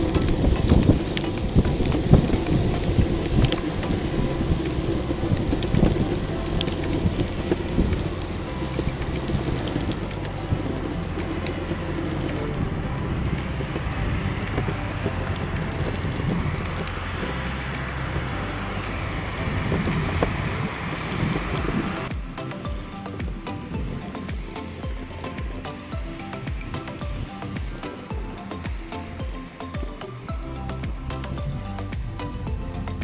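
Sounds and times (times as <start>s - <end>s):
skateboard wheels rumbling on asphalt: 0.0s - 33.0s
wind on microphone: 0.0s - 33.0s.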